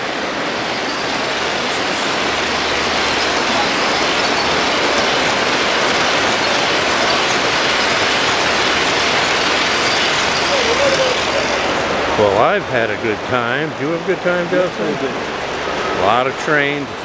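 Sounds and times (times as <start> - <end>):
model train wheels rumbling on rail: 0.0 - 17.0.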